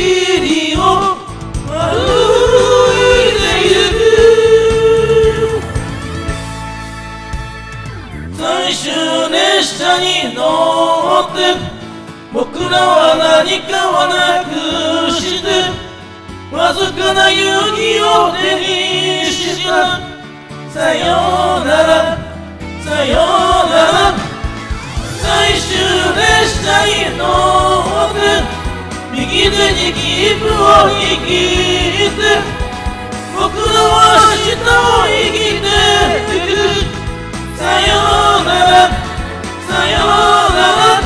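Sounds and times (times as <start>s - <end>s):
people singing karaoke: 0.0s - 6.6s, 8.2s - 41.0s
karaoke backing music: 0.0s - 41.0s.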